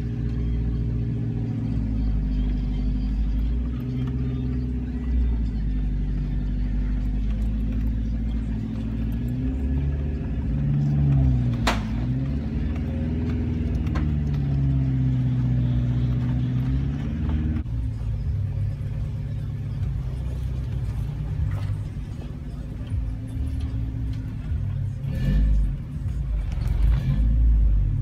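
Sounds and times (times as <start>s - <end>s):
vehicle engine under load: 0.0s - 28.0s.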